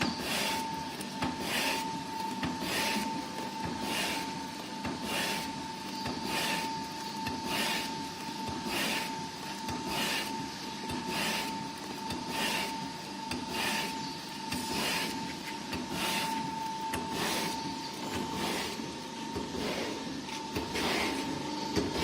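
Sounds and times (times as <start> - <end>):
meat slicer motor whine: 0.0 - 22.0.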